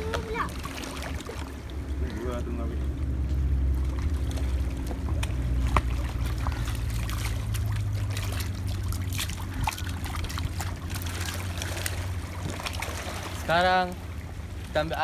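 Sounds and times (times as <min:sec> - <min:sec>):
steady low rumble: 0:00.0 - 0:15.0
water lapping on rocks: 0:00.0 - 0:15.0.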